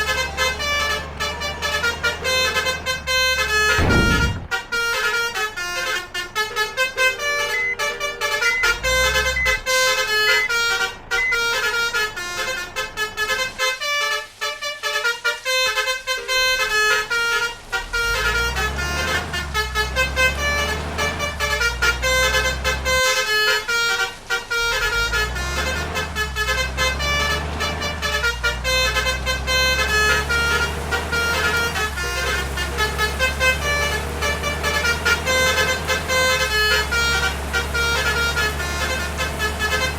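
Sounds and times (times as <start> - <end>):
low vehicle rumble: 0.0 - 39.9
multi-tone bus horns: 0.0 - 39.9.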